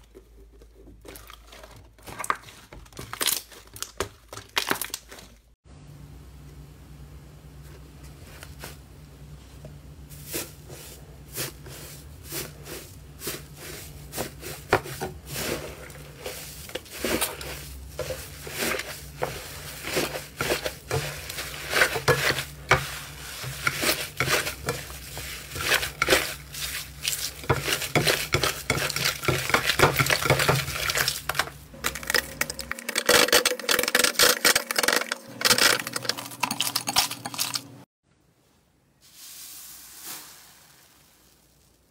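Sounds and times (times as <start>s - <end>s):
low steady hum: 5.7s - 40.5s.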